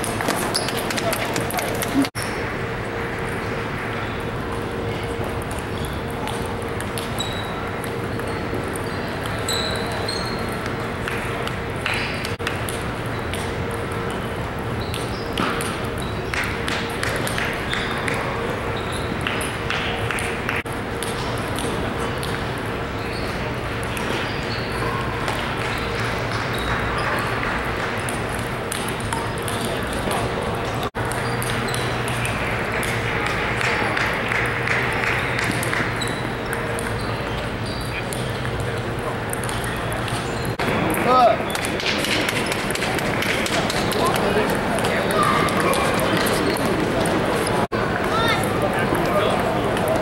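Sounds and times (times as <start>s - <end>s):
table tennis balls clicking: 0.0s - 2.4s, 3.3s - 50.0s
hubbub of busy hall: 0.0s - 50.0s.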